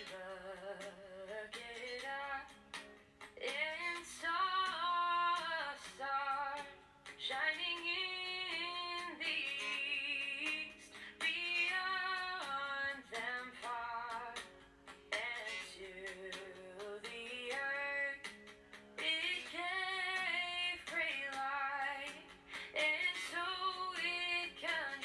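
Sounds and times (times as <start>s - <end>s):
woman singing: 0.0s - 2.6s, 3.3s - 14.5s, 15.1s - 18.4s, 19.0s - 25.0s.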